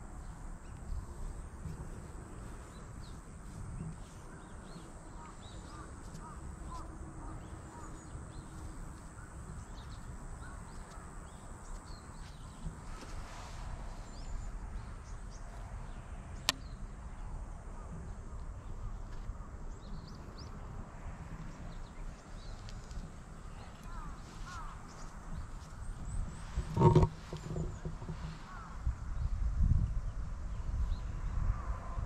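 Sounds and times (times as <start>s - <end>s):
small birds chirping: 0.0s - 20.8s, 21.4s - 29.4s
low wind rumble: 0.0s - 32.0s.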